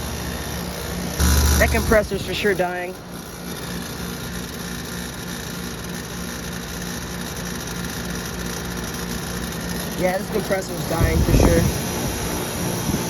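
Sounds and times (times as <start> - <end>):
compressor low hum: 0.0 - 13.0
condenser fan rushing: 0.0 - 13.0.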